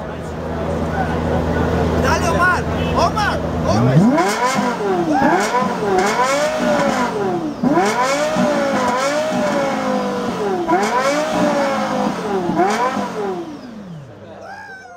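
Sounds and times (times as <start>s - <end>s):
car engine revving: 0.0s - 14.4s.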